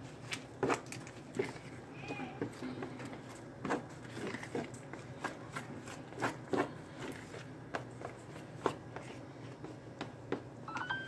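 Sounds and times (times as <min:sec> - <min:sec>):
hand squishing wet batter: 0:00.0 - 0:10.5.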